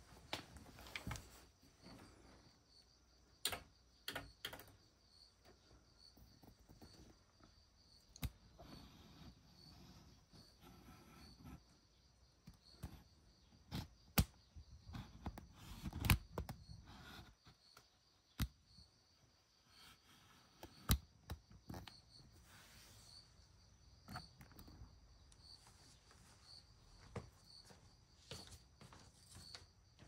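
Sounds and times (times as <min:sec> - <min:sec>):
insect chirping trill: 0:01.4 - 0:30.0.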